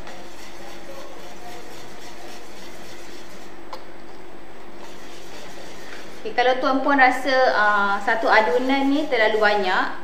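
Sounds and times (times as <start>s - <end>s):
whisk scraping in metal bowl: 0.0s - 3.6s, 4.8s - 10.0s.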